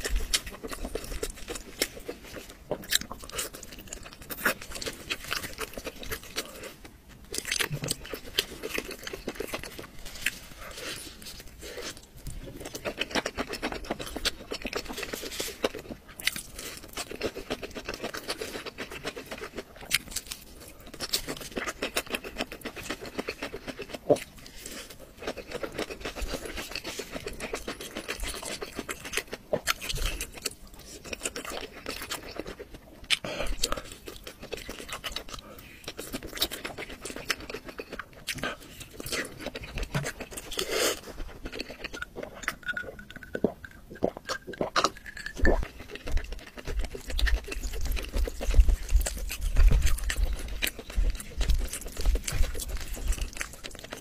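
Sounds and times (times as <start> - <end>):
person chewing and biting: 0.0 - 54.0.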